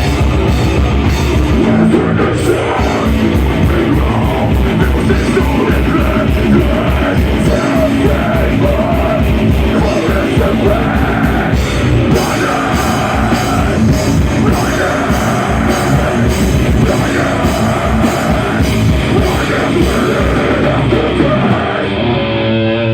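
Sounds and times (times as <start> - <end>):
driving drum beat: 0.0 - 22.0
distorted guitars: 0.0 - 22.9
shouted or sung vocals: 1.5 - 22.9.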